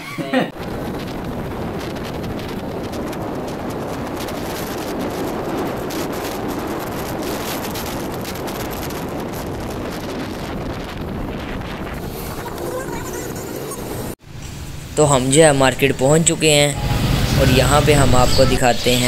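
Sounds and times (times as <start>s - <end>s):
road noise from moving vehicle: 0.5s - 19.0s
wind buffeting microphone: 0.5s - 19.0s.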